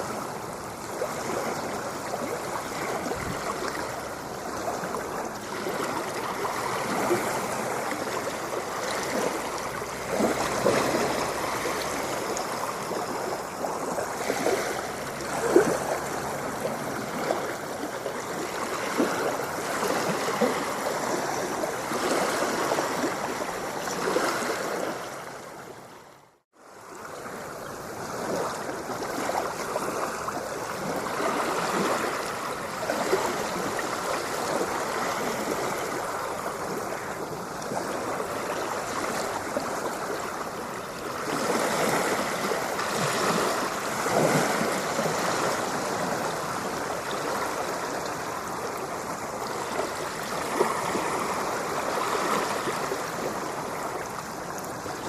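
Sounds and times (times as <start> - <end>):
ocean water rushing and splashing: 0.0 - 55.0.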